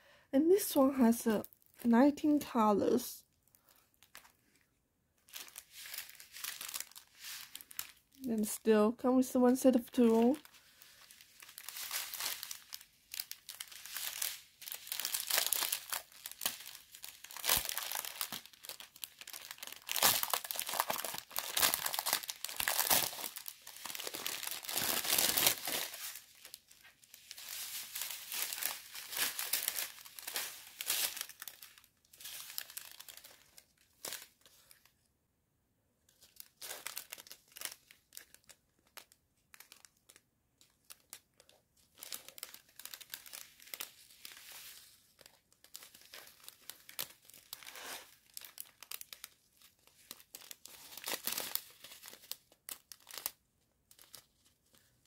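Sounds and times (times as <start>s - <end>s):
plastic packaging crinkling: 3.3s - 4.6s, 5.2s - 35.0s, 36.1s - 55.0s.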